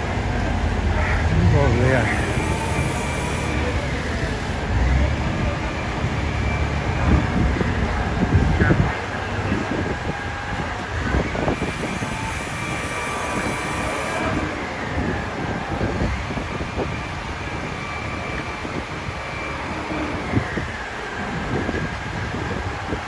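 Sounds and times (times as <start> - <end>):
distant siren wailing: 0.0 - 23.0
street noise: 0.0 - 23.0
strong wind rushing: 0.0 - 23.0.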